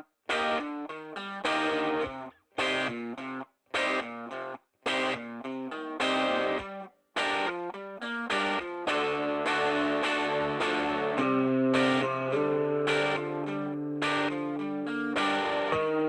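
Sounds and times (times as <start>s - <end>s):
distorted guitar phrases: 0.0s - 16.0s.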